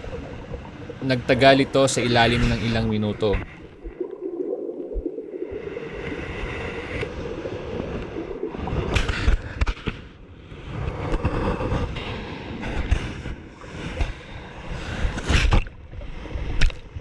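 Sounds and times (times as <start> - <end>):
muffled churning water: 0.0 - 17.0.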